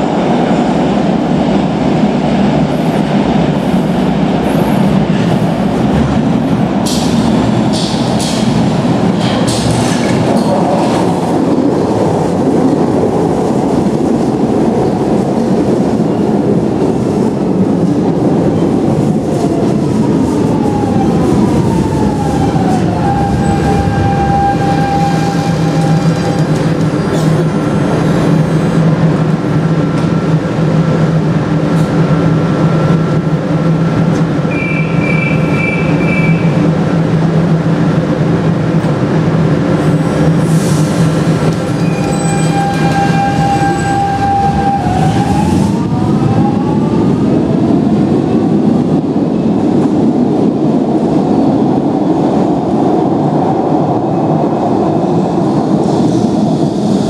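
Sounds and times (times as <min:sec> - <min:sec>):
train equipment humming: 0:00.0 - 0:57.0
wheels rumbling on track: 0:00.0 - 0:57.0.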